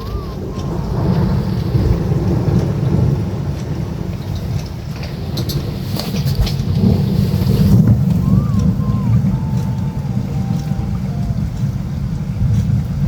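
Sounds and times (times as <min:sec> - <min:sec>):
scattered clicks: 0:00.0 - 0:07.0, 0:07.6 - 0:12.8
wind buffeting microphone: 0:00.0 - 0:13.0.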